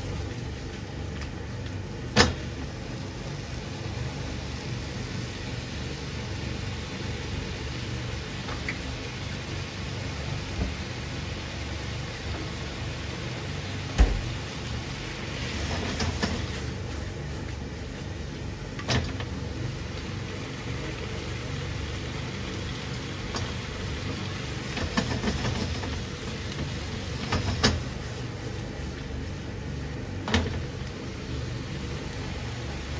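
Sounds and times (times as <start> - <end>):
noodles sizzling in a frying pan: 0.0 - 32.9.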